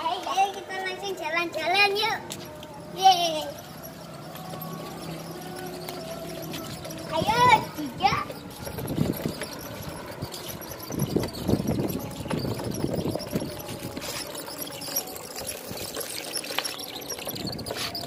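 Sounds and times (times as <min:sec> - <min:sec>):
toy wheels rolling over concrete: 0:00.0 - 0:18.0.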